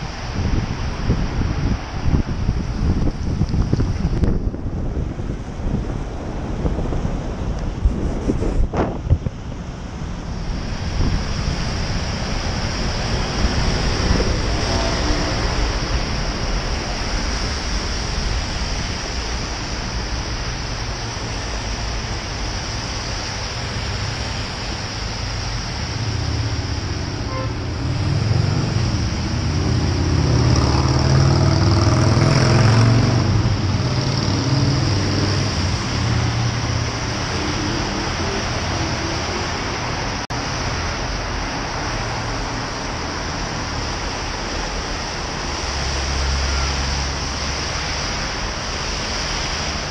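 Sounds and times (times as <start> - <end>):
tyres hissing on wet road: 0.0 - 49.9
motor vehicle engine: 3.8 - 49.9.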